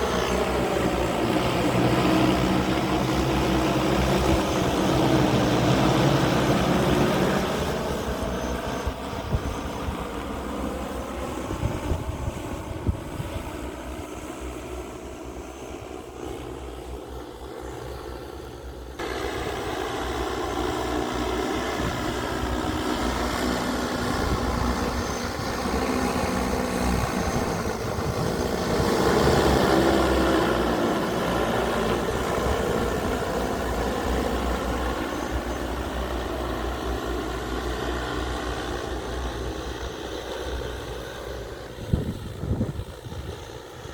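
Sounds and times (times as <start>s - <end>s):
drone propellers humming: 0.0s - 43.9s.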